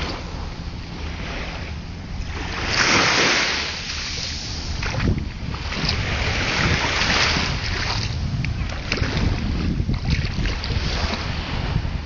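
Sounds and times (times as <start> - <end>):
waves lapping at shore: 0.0 - 12.0
wind rumbling on microphone: 0.0 - 12.0.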